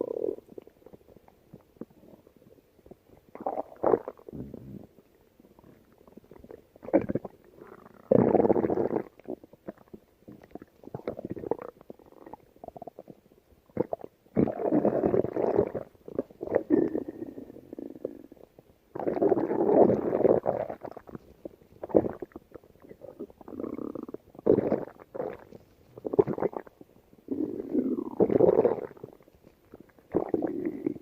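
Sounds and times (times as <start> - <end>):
stomach growling: 0.0 - 31.0.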